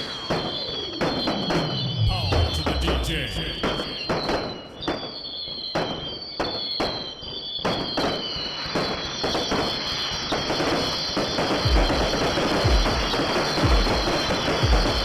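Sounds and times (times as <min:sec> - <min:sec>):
continuous high whistling: 0:00.0 - 0:15.0
fireworks bangs and crackles: 0:00.0 - 0:15.0.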